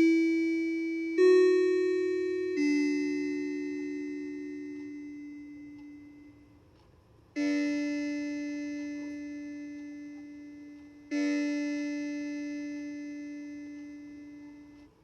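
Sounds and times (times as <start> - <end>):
clock chime ringing: 0.0 - 6.6, 7.4 - 14.9.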